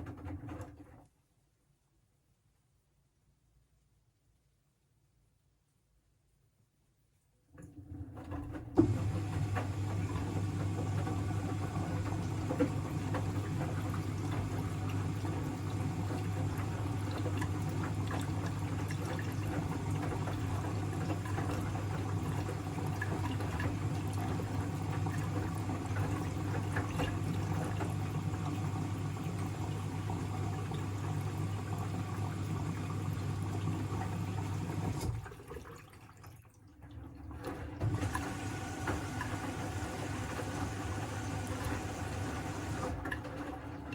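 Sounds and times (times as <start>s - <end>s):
washing machine humming: 0.0s - 1.1s, 7.5s - 43.9s.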